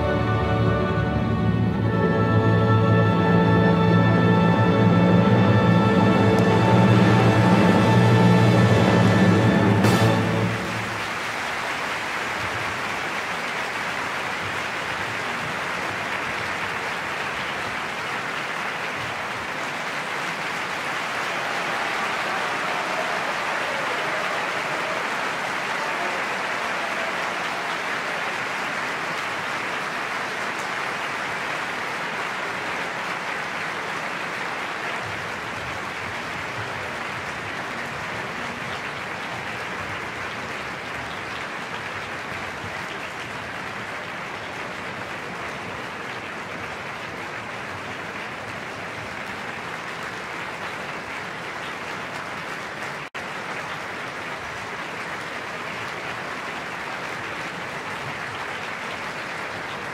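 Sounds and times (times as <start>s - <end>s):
audience applauding: 0.0s - 59.9s.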